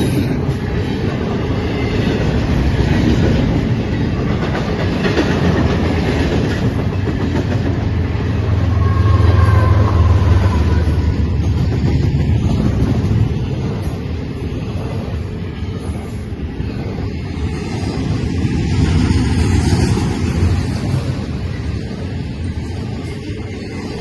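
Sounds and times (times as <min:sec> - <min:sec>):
freight train wheels on rail: 0:00.0 - 0:24.0.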